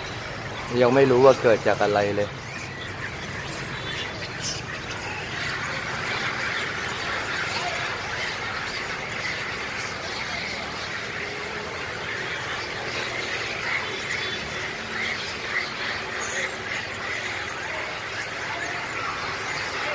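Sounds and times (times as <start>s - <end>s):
monkeys squealing: 0.0s - 19.9s.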